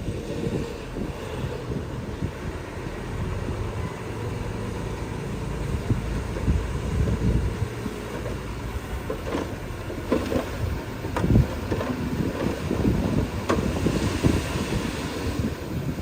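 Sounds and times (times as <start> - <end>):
heavy diesel machinery rumbling: 0.0 - 16.0.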